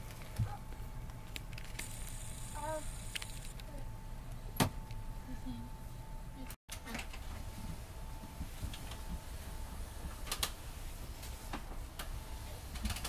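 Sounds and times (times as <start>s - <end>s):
low indoor rumble: 0.0s - 13.0s.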